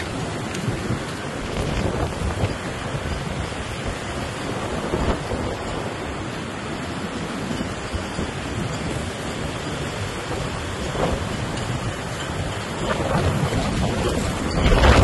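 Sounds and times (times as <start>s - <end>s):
heavy surf rushing: 0.0s - 15.0s
wind blowing across microphone: 0.0s - 15.0s.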